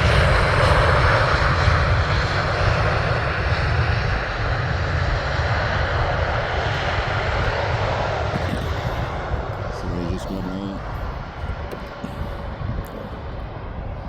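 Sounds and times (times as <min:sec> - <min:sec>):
jet airliner engines passing: 0:00.0 - 0:14.0.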